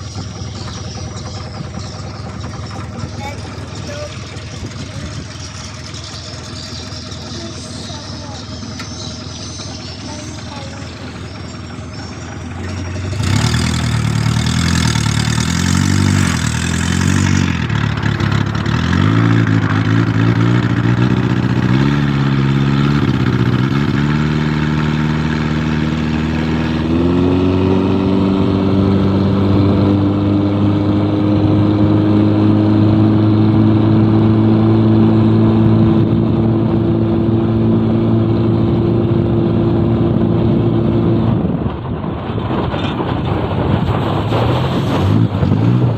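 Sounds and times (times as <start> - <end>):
boat engine revving: 0.0 - 41.9, 43.0 - 45.9.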